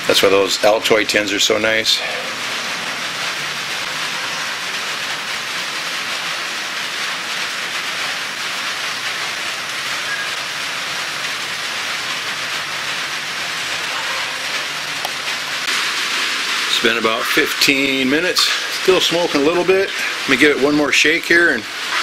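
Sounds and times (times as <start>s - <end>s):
rain on a tin roof: 0.0s - 22.0s.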